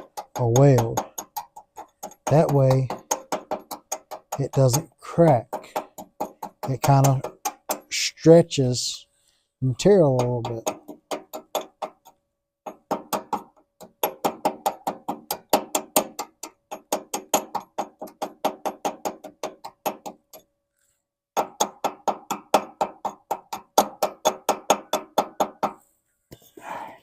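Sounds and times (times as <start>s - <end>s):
hammer tapping metal: 0.0s - 8.1s, 9.8s - 20.5s, 21.4s - 25.8s.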